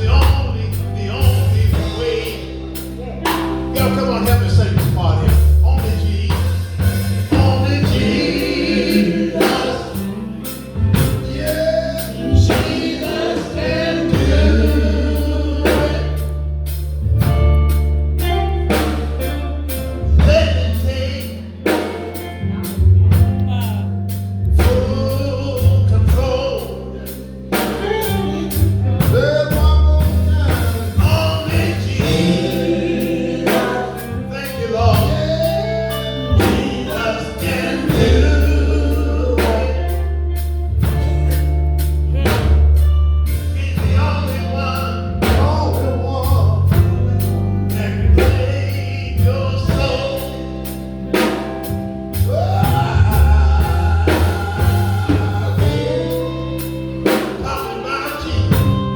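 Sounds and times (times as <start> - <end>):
bass line: 0.0 - 58.9
drum kit: 0.0 - 58.9
keyboard playing: 0.0 - 58.9
voices singing gospel: 0.0 - 58.9.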